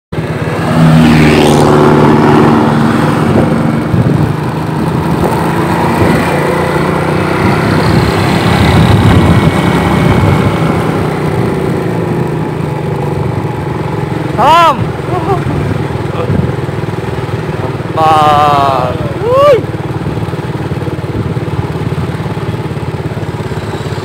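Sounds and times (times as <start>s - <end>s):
vehicle engine running: 0.1s - 24.0s
wind and road noise rumble: 0.1s - 24.0s.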